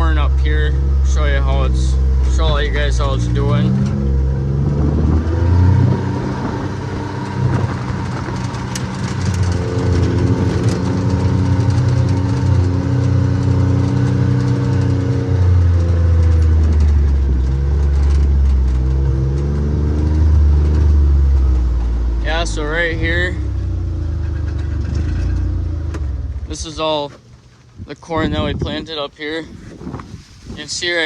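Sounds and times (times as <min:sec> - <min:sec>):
vehicle engine driving uphill: 0:00.0 - 0:28.9.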